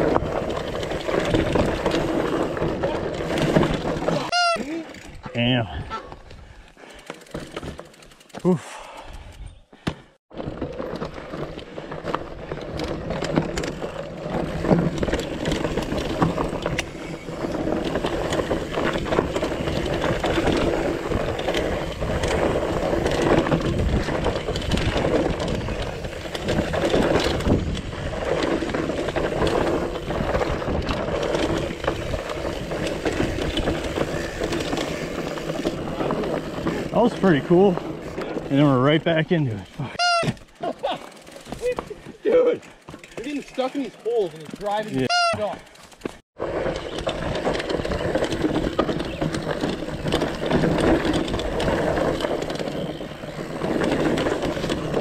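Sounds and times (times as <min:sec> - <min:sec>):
bike rattling and knocking: 0:00.0 - 0:05.6, 0:06.4 - 0:55.0.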